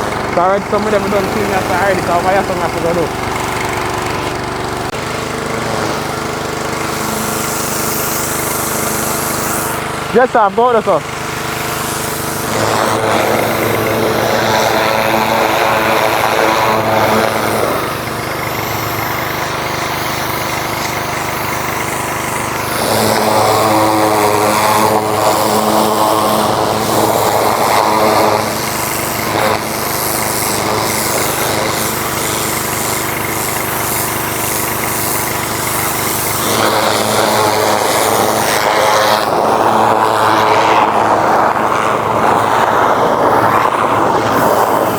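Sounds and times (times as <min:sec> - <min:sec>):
engine running and revving: 0:00.0 - 0:44.9.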